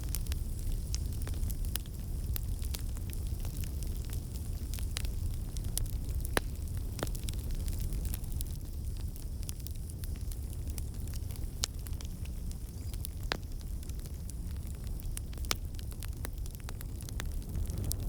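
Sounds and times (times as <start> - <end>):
fire popping: 0.0 - 18.0
low rush of flames: 0.0 - 18.0.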